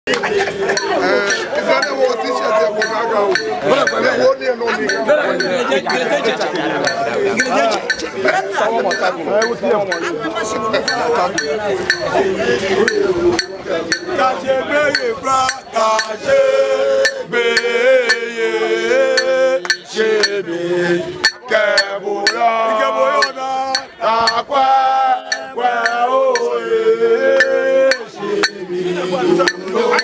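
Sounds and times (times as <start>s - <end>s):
group of people chanting: 0.1s - 30.0s.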